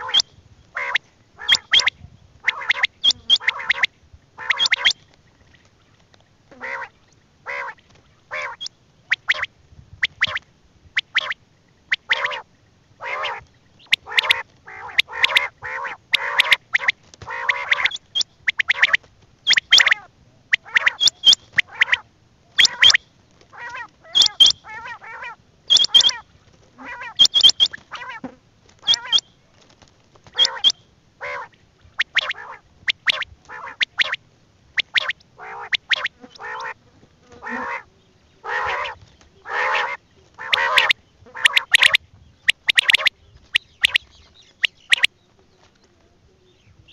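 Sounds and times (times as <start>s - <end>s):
quail calling: 0.0s - 5.7s, 6.5s - 10.4s, 11.0s - 29.4s, 30.2s - 46.0s.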